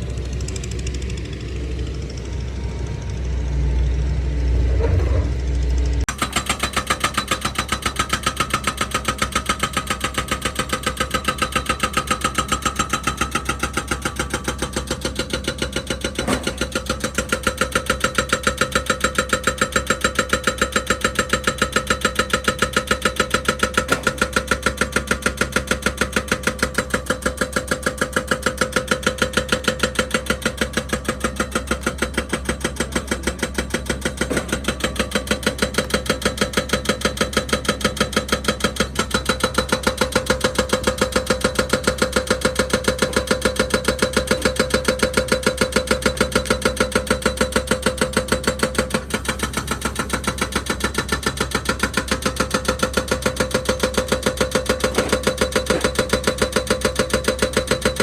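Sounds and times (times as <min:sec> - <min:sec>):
heavy engine chugging: 0:00.0 - 0:58.0.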